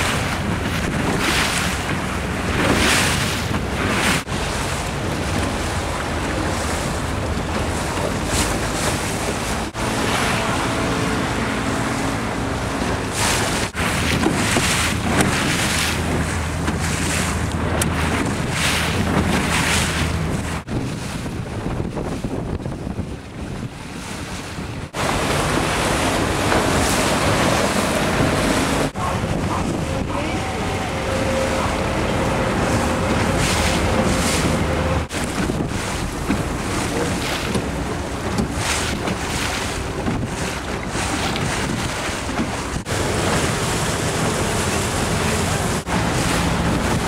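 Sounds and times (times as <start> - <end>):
boat engine hum: 0.0 - 47.0
water splashing: 0.0 - 47.0
wind buffeting microphone: 0.0 - 47.0.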